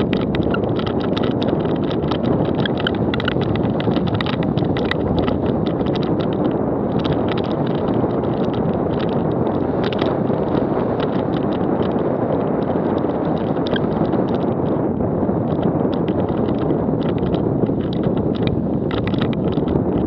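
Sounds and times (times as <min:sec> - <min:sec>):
bike and stones rattling: 0:00.0 - 0:20.0
wind on microphone: 0:00.0 - 0:20.0.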